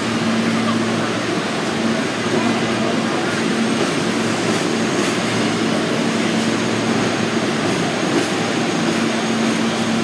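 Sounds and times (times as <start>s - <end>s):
subway train rumbling on track: 0.0s - 10.0s.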